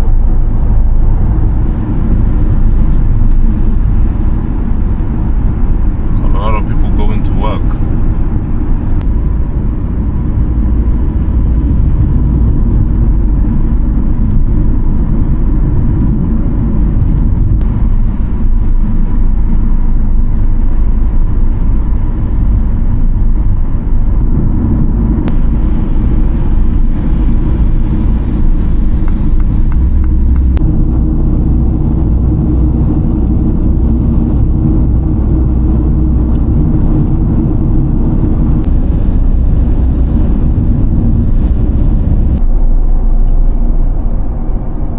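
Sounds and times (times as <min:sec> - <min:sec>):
car driving on highway: 0:00.0 - 0:44.9.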